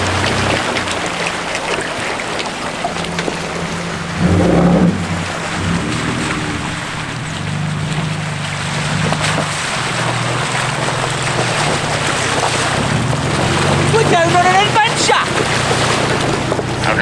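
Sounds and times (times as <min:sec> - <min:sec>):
low engine drone: 0:00.0 - 0:17.0
tyres and wind rushing: 0:00.0 - 0:17.0.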